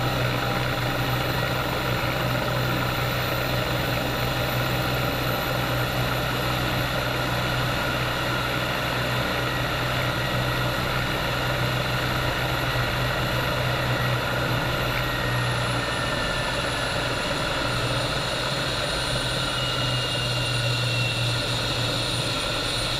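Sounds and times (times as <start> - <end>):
helicopter engines and rotor drone: 0.0 - 22.9.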